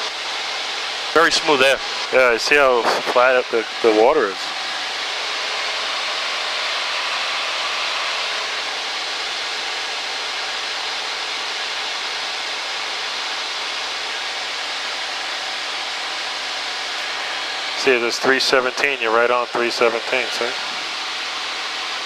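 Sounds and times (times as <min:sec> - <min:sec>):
airplane engine and propeller drone: 0:00.0 - 0:22.0.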